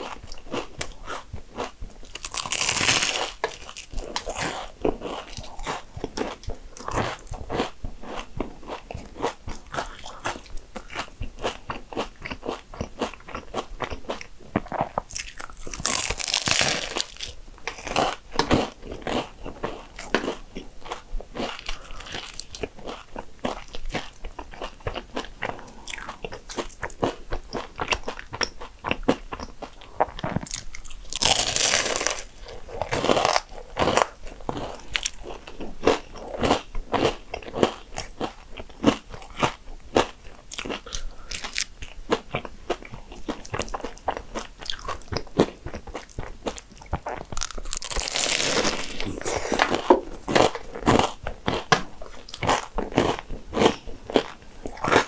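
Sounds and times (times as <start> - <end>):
chewing crisp pastry: 0.0 - 55.0.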